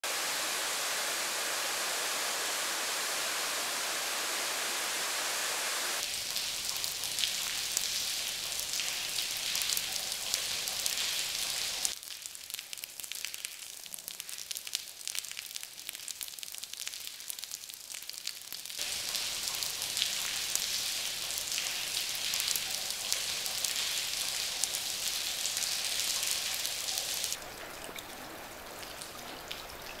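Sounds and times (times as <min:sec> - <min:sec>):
rain on grass and concrete: 0:00.0 - 0:30.0.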